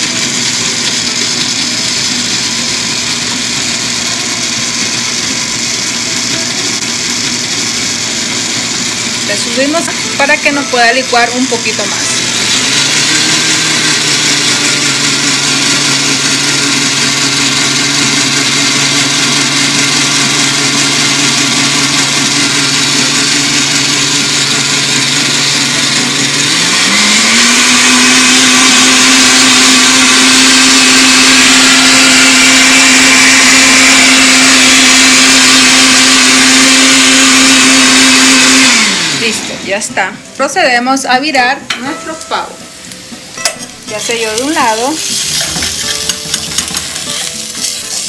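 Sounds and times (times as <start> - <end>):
blender motor running: 0.0 - 40.6, 44.0 - 48.0.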